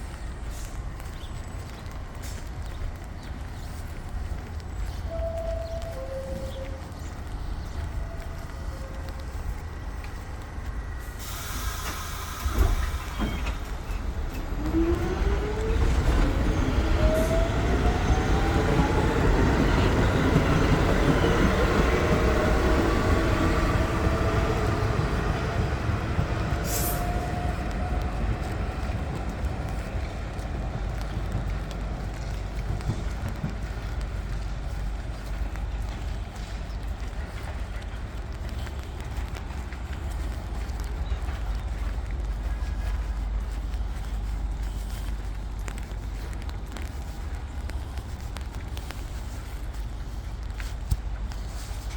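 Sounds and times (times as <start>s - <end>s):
low train rumble: 0.0s - 51.9s.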